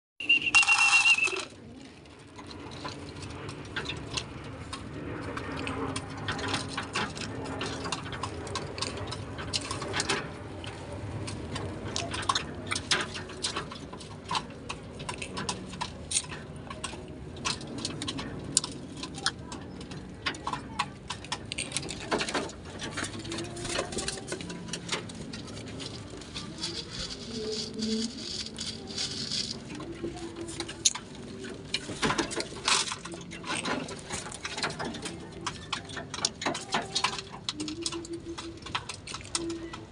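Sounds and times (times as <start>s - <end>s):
pigeons pecking grain: 0.2s - 39.9s.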